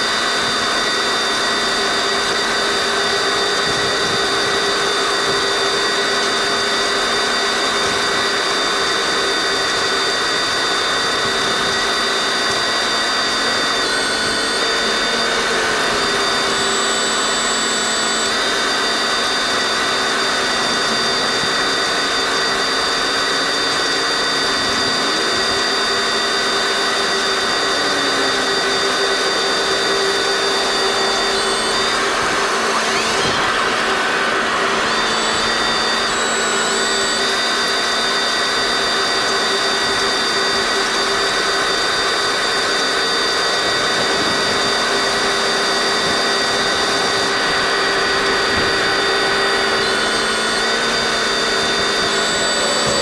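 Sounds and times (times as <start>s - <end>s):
tractor droning whine: 0.0s - 53.0s.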